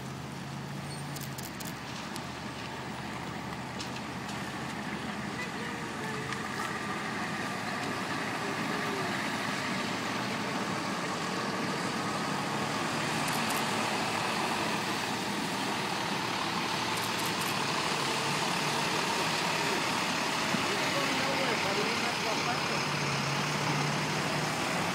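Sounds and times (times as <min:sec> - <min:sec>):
road noise: 0:00.0 - 0:24.9
truck engines passing: 0:00.0 - 0:24.9.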